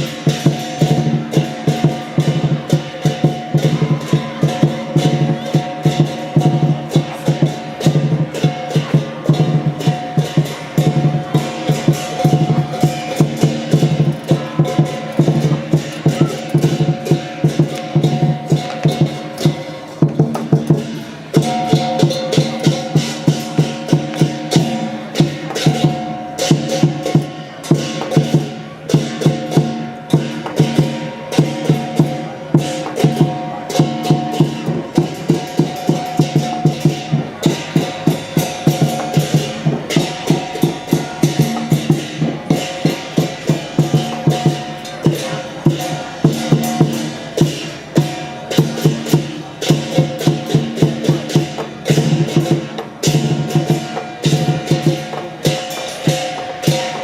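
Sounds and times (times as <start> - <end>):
drum and cymbal strikes: 0.0 - 57.0.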